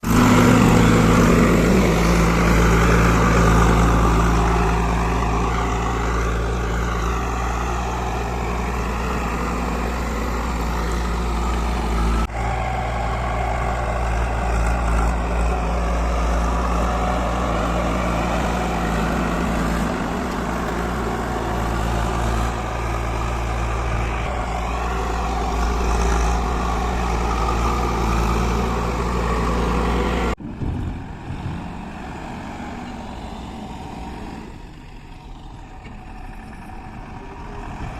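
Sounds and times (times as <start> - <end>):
diesel construction machinery running: 0.0 - 37.9.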